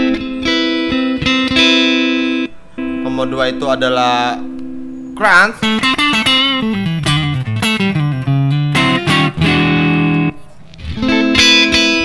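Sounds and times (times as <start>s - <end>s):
overdriven electric guitar: 0.0s - 12.0s.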